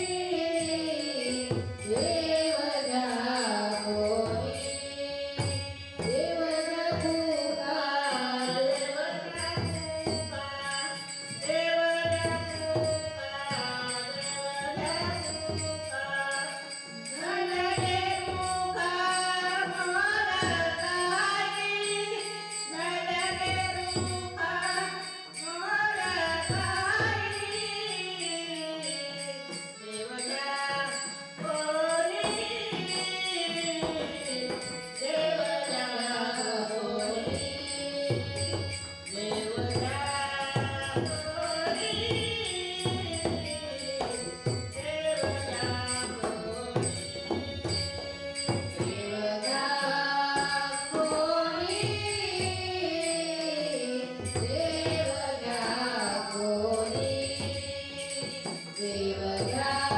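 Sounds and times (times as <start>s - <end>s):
jingling hand cymbals: 0.0s - 59.9s
women singing devotional song: 0.0s - 59.9s.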